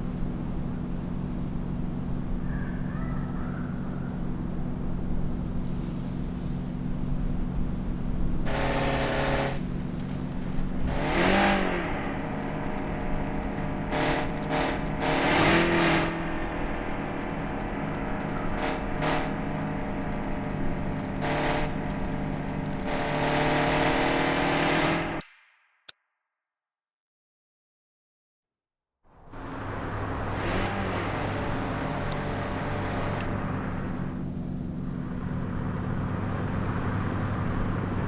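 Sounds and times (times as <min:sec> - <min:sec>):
car engine hum: 0:00.0 - 0:25.2, 0:29.2 - 0:38.0
road noise: 0:00.0 - 0:25.2, 0:29.2 - 0:38.0.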